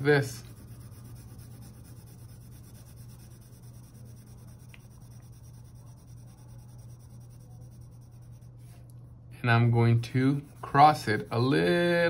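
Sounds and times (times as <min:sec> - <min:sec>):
pencil scratching on cardboard: 0:00.0 - 0:08.7, 0:10.1 - 0:12.0
low hum: 0:00.0 - 0:12.0.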